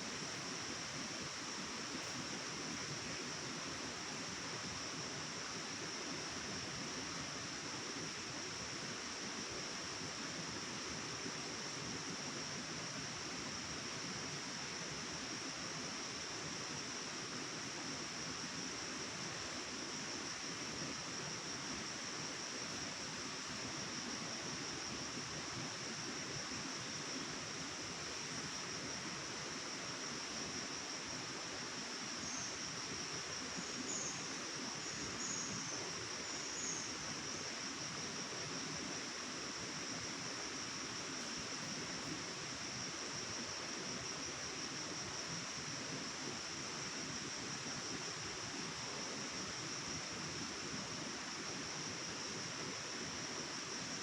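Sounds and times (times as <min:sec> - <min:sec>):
insect drone: 0:00.0 - 0:54.0.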